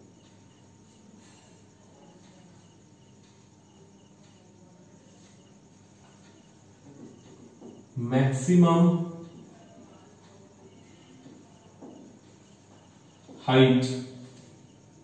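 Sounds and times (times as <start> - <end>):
insect chirping: 0.0 - 15.0
low room hum: 0.0 - 15.0.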